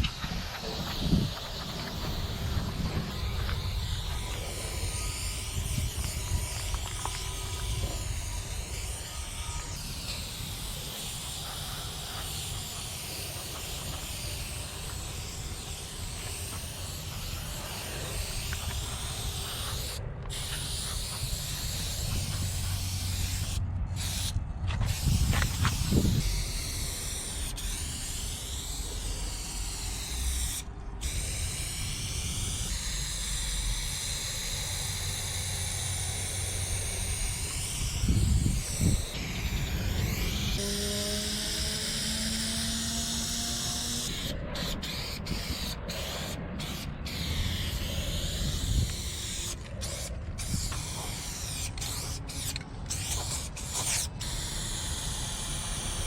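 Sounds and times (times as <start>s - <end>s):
spray paint can hissing: 0.0s - 56.0s.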